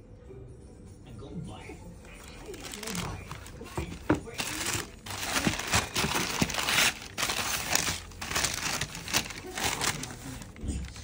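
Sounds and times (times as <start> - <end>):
tissue paper crinkling: 2.1 - 11.0.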